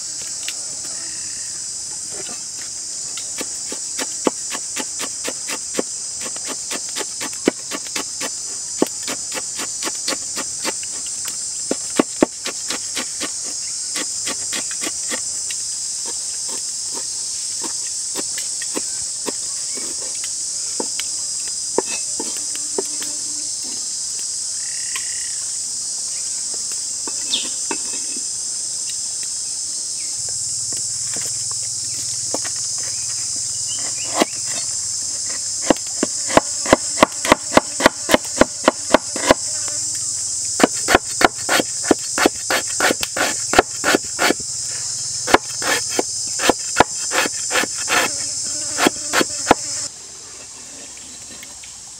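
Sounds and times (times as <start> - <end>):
forest insects droning: 0.0 - 51.9.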